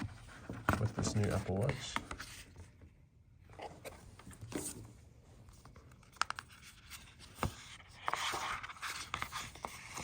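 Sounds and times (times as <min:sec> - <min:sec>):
cardboard and paper rustling: 0:00.0 - 0:02.8, 0:03.6 - 0:10.0.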